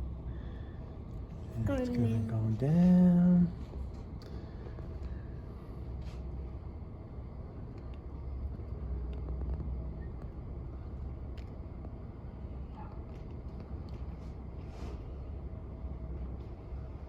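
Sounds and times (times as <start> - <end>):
diesel engine low rumble: 0.0 - 17.0.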